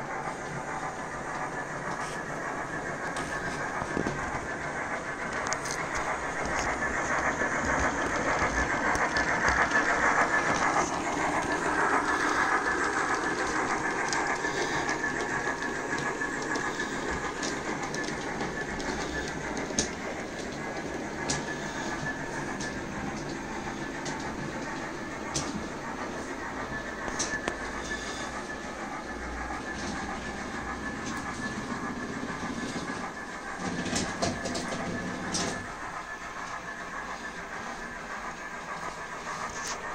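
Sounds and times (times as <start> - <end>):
model train motors whirring: 0.0 - 39.9
wheels rolling over track: 0.0 - 39.9.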